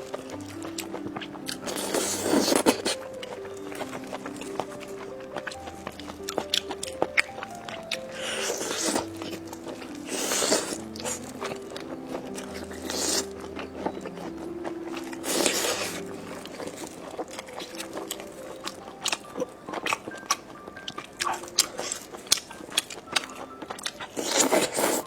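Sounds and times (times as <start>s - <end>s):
crunchy bites and chewing: 0.0s - 25.0s
soft background music: 0.0s - 25.0s.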